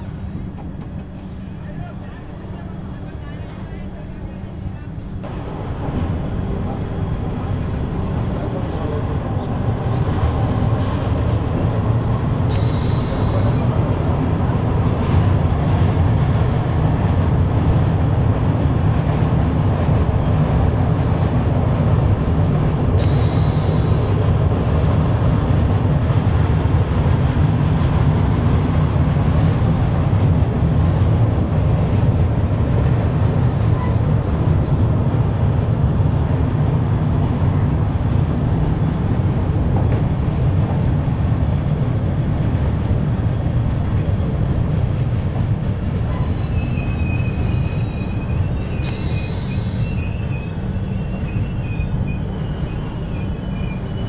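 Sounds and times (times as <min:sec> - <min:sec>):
train rumbling on track: 0:00.0 - 0:54.0.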